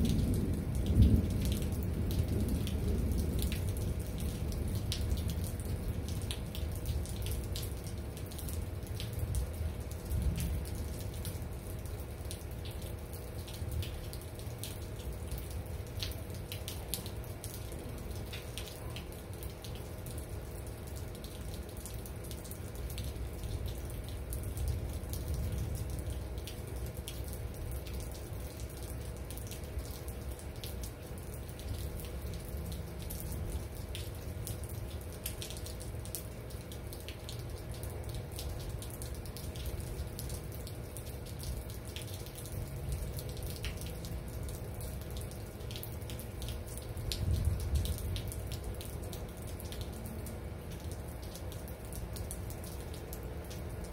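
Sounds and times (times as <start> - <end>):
steady rain: 0.0 - 53.9
water running and dripping: 0.0 - 53.9.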